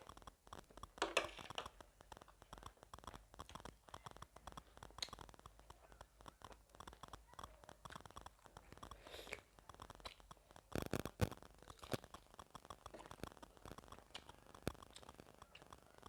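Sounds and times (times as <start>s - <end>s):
close chewing mouth clicks: 0.0s - 16.0s.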